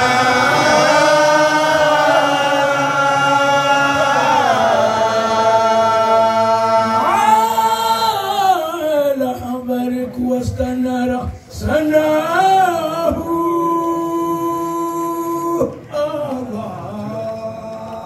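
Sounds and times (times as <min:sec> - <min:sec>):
man chanting unaccompanied: 0:00.0 - 0:18.0.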